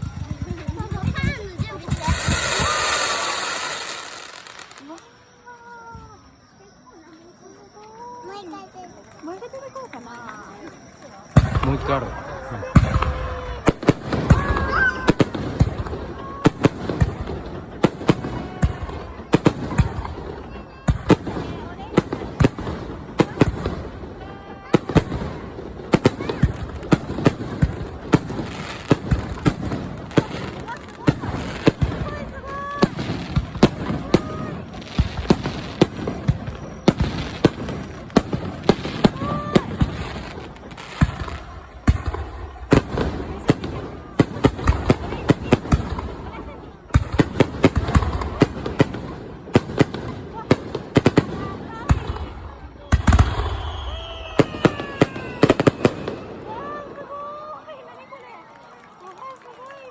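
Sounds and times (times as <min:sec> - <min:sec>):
fireworks banging: 0:00.0 - 0:06.4, 0:07.7 - 0:57.2.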